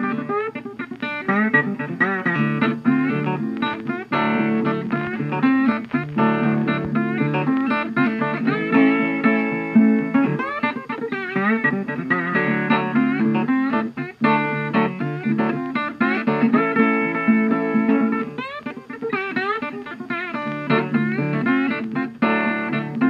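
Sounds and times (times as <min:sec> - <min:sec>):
plucked guitar tune: 0:00.0 - 0:23.0.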